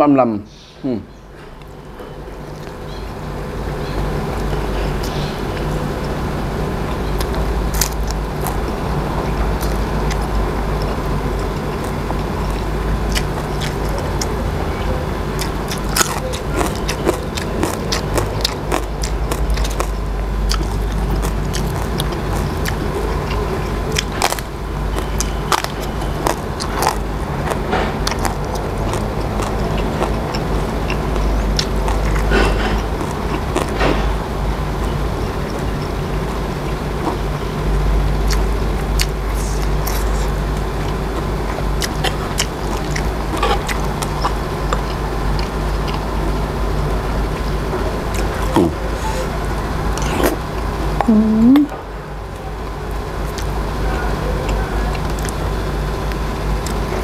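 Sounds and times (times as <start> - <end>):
steady low hum: 0.0 - 57.0
chewing crisp raw vegetables: 3.7 - 51.8, 52.9 - 57.0.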